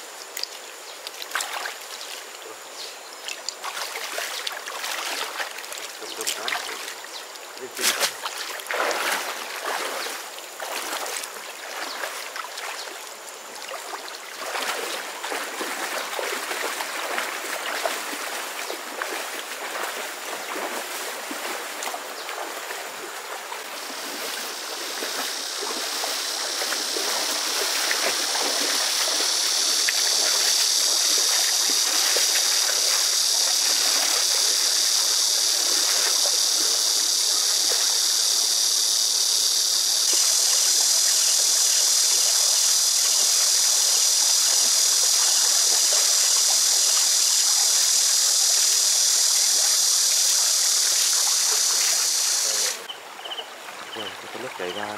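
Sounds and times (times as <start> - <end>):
water splashing and sloshing: 0.0 - 38.7, 39.8 - 54.9
stream trickling over stones: 0.0 - 54.9.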